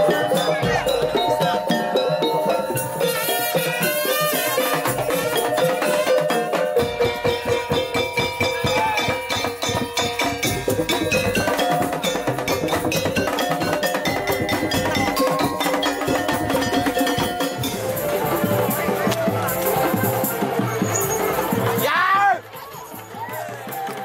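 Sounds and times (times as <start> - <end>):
pitched melody line: 0.0 - 21.8
percussion ensemble playing: 0.0 - 24.0.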